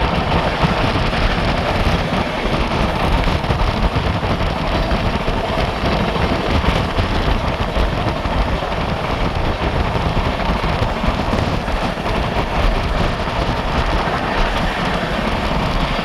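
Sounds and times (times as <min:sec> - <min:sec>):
train wheels rumbling on rails: 0:00.0 - 0:16.0
wind noise: 0:00.0 - 0:16.0.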